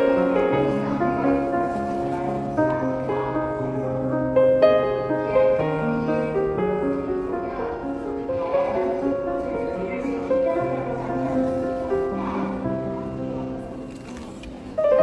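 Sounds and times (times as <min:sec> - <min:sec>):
gentle piano instrumental: 0:00.0 - 0:15.0.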